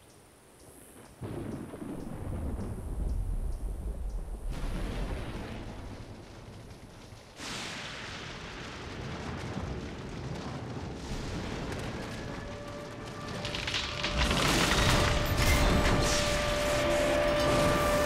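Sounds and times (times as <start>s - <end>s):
rushing storm noise with crackle: 0.6s - 18.0s.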